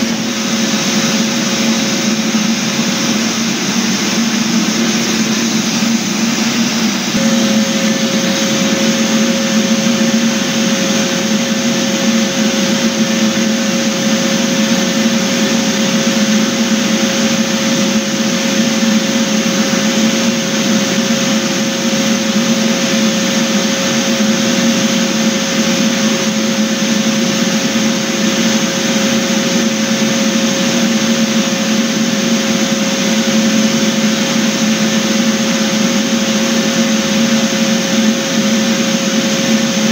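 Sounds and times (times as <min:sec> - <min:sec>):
floor sanding machine running: 0:00.0 - 0:39.9
steady whine: 0:00.0 - 0:39.9.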